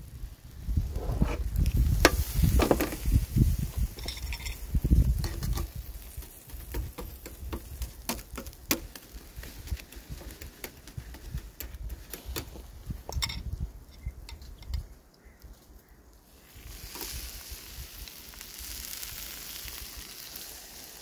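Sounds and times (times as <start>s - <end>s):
fish grilling crackles and pops: 0.0s - 21.0s.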